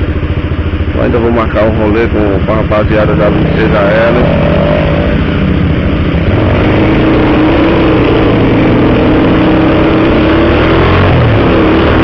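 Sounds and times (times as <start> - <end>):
motorcycle engine running: 0.0 - 12.0
rush of noise: 0.0 - 12.0.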